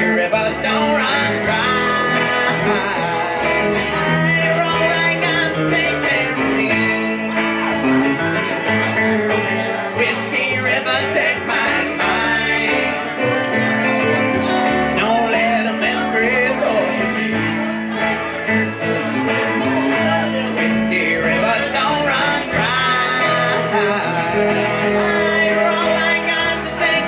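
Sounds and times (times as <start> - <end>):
acoustic guitar: 0.0 - 27.0
electric guitar: 0.0 - 27.0
upright double bass: 0.0 - 27.0.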